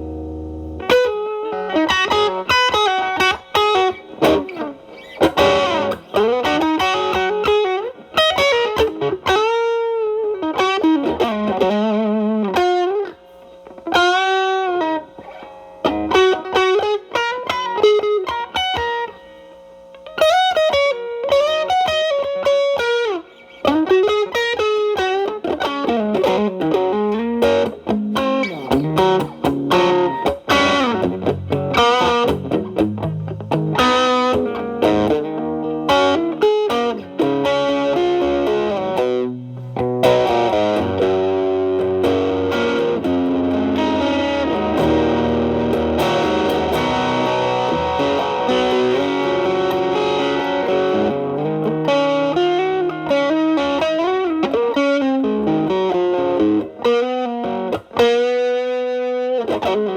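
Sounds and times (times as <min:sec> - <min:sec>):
overdriven electric guitar: 0:00.0 - 0:59.9.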